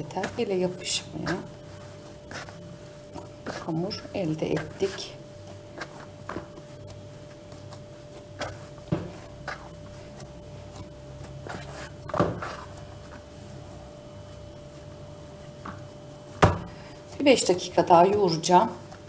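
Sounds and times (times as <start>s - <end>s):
dough kneaded in plastic bowl: 0.0s - 19.0s.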